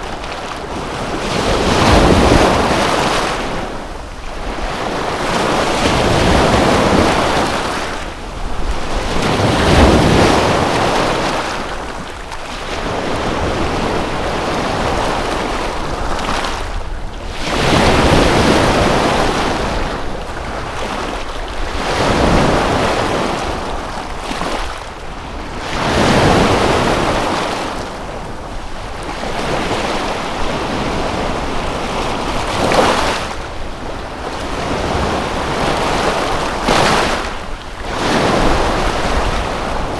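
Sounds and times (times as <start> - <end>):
lake waves washing in: 0.0 - 39.9
wind buffeting microphone: 0.0 - 39.9.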